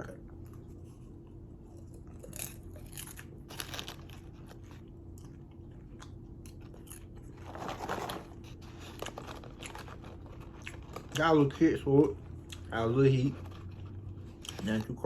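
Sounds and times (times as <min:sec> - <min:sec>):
person chewing popcorn: 0:00.0 - 0:15.0.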